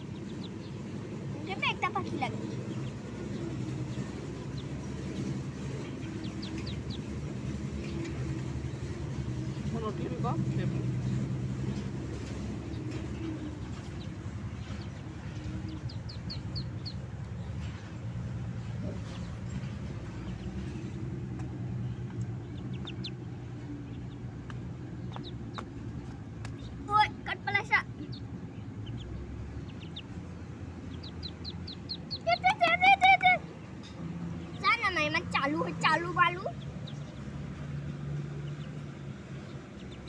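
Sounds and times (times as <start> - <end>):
ducklings peeping: 0.0 - 40.0
steady low hum: 0.0 - 40.0.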